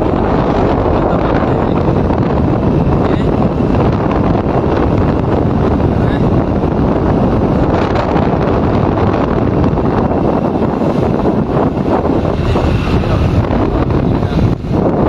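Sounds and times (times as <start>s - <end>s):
motorcycle and road noise: 0.0s - 15.0s
wind buffeting microphone: 0.0s - 15.0s.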